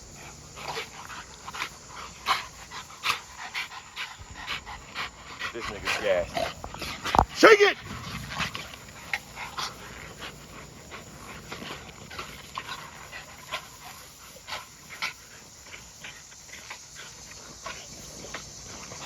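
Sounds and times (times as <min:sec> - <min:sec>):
dogs panting hard: 0:00.0 - 0:19.0.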